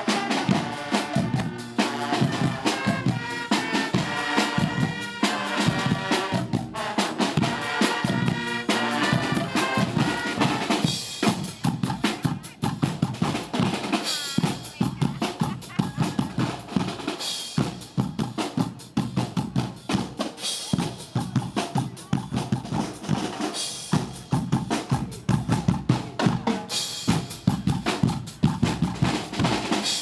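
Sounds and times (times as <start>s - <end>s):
carnival band playing: 0.0s - 30.0s
fast driving drum beat: 0.0s - 30.0s.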